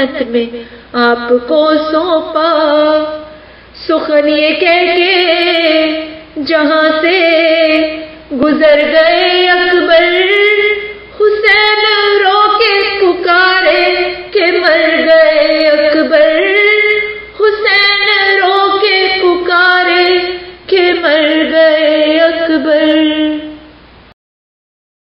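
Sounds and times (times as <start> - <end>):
woman chanting melodically: 0.0 - 23.8.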